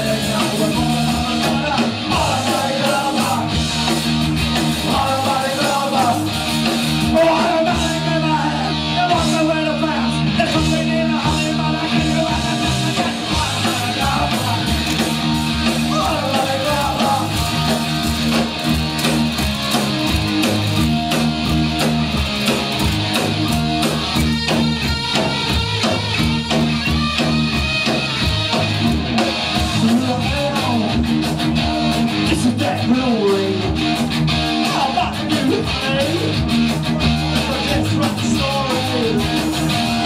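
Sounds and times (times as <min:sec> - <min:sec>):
punk rock band playing: 0:00.0 - 0:40.0.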